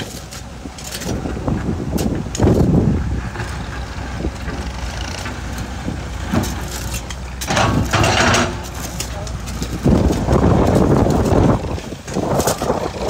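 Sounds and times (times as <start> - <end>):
excavator diesel engine running: 0.0 - 13.0
bucket scraping soil and stones: 2.0 - 13.0.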